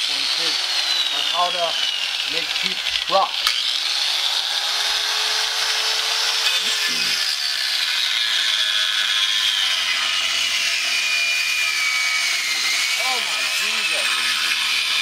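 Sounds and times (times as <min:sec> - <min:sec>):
angle grinder cutting metal: 0:00.0 - 0:15.0.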